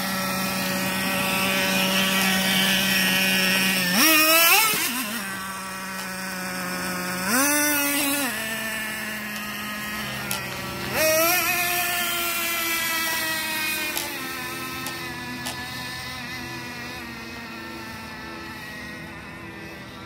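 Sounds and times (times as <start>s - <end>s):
small nitro engine idling and revving: 0.0s - 20.0s.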